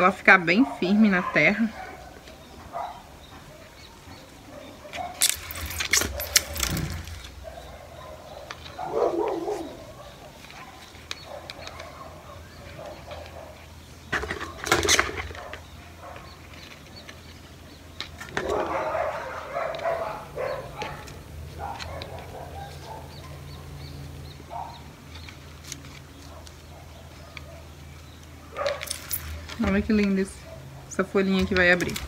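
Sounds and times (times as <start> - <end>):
leaves rustling: 0.0 - 32.0
crackling and clicking: 1.7 - 32.0.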